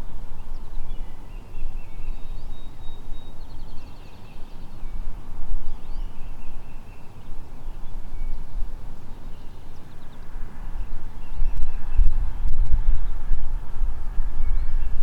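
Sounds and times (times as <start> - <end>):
songbirds chirping: 0.0 - 15.0
wind buffeting microphone: 0.0 - 15.0.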